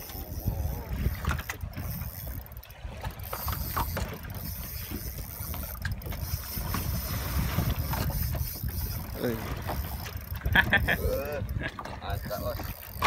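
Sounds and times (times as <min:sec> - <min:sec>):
fishing reel whirring: 0:00.0 - 0:13.0
wind and water rumble: 0:00.0 - 0:13.0.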